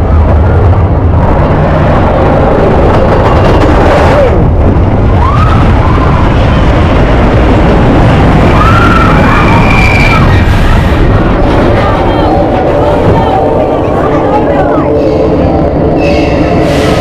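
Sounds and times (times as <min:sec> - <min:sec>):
roller coaster rumbling on track: 0:00.0 - 0:17.0
wind buffeting microphone: 0:00.0 - 0:17.0.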